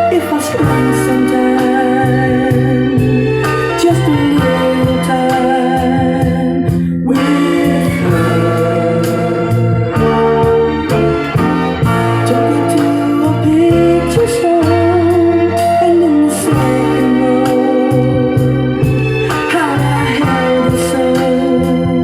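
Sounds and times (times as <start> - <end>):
person singing: 0.0 - 22.0
soul song with organ and drums: 0.0 - 22.0.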